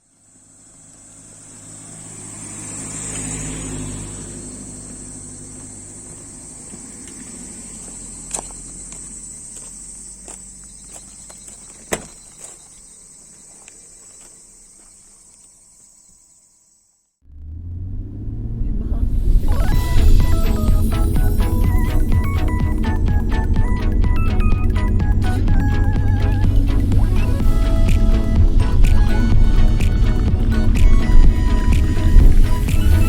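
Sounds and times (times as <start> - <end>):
insects buzzing: 0.0 - 17.2, 19.2 - 33.0
car engine passing: 0.1 - 13.3, 17.2 - 33.0.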